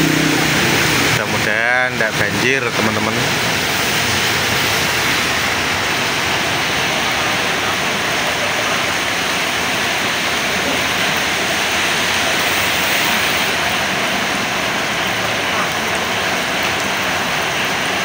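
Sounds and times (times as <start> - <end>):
heavy rain on a metal roof: 0.0 - 18.0.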